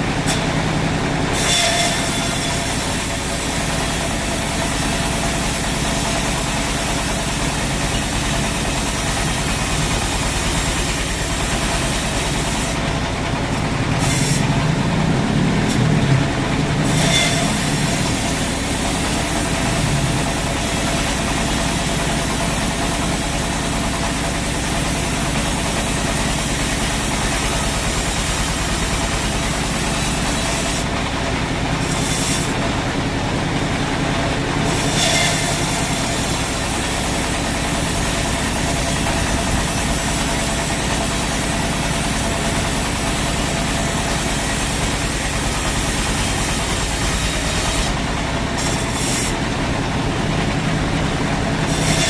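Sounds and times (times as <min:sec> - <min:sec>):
sawmill machinery humming: 0:00.0 - 0:52.0.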